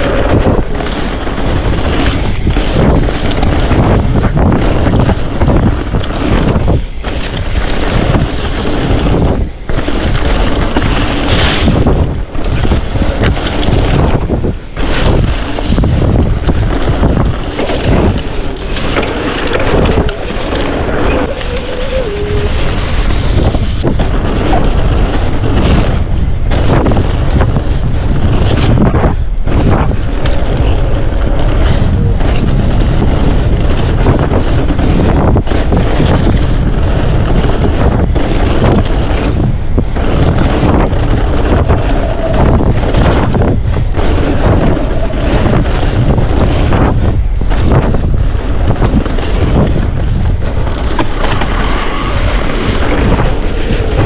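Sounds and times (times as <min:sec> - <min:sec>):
bike knocks and rattles: 0:00.0 - 0:54.0
tyres rumbling on trail: 0:00.0 - 0:54.0
wind buffeting microphone: 0:00.0 - 0:54.0.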